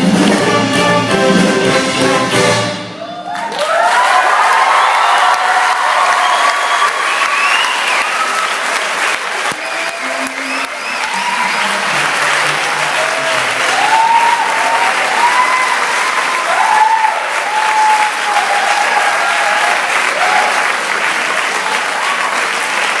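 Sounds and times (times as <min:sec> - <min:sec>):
audience applauding: 0:00.0 - 0:23.0
audience cheering: 0:02.0 - 0:23.0.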